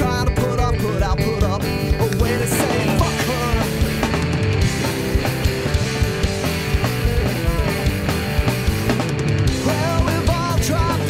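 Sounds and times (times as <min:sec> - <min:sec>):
rock song with driving beat: 0:00.0 - 0:11.0.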